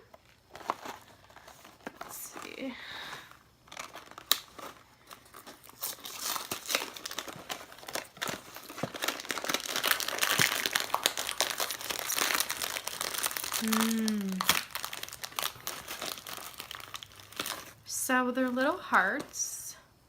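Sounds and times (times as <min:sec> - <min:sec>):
plastic wrapper crinkling and tearing: 0:00.0 - 0:19.4.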